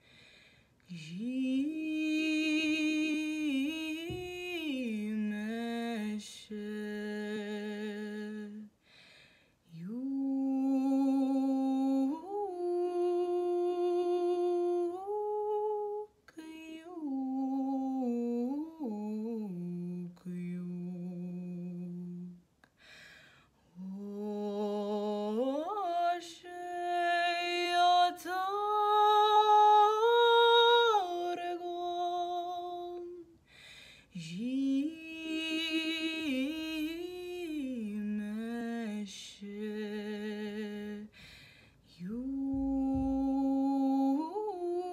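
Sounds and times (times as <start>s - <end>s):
woman singing unaccompanied: 0.8s - 8.8s, 9.7s - 22.5s, 23.7s - 33.4s, 34.1s - 41.2s, 41.9s - 44.9s.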